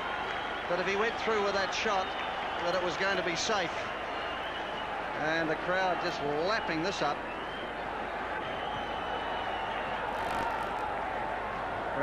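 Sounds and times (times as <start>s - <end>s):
stadium crowd noise: 0.0s - 12.0s.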